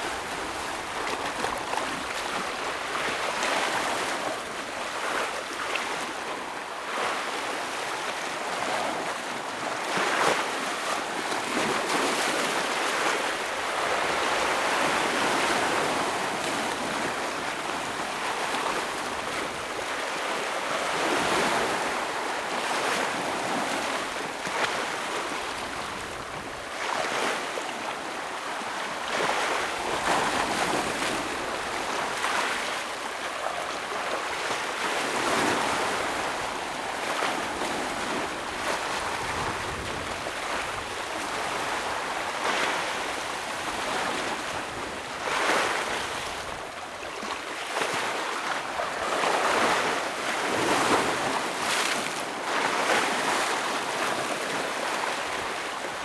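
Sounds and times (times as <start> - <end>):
ocean waves breaking on rocks: 0.0 - 56.0.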